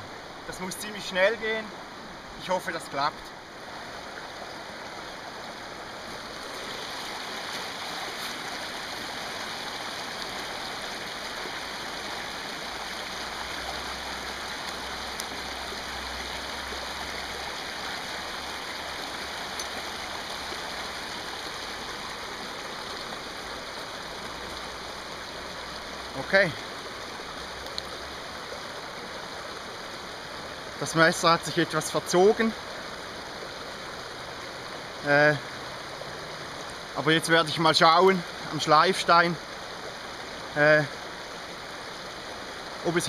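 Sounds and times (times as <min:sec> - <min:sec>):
river rushing over stones: 0:00.0 - 0:43.0.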